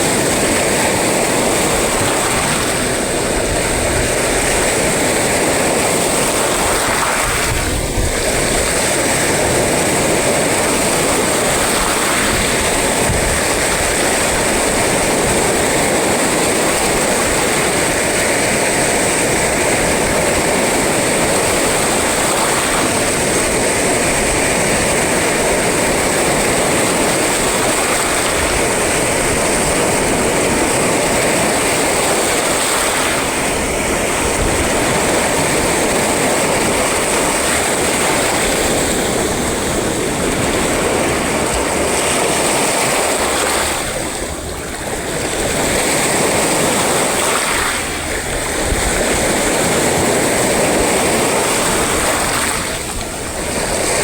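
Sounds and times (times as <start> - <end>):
sea surf: 0.0 - 54.0
wind: 0.0 - 54.0.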